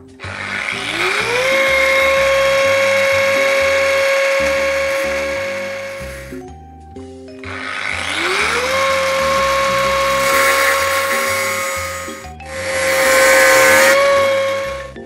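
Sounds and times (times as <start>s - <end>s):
angle grinder motor whine: 0.0s - 6.4s, 7.4s - 15.0s
grinding disc rasping on metal: 0.2s - 6.4s, 7.4s - 14.9s.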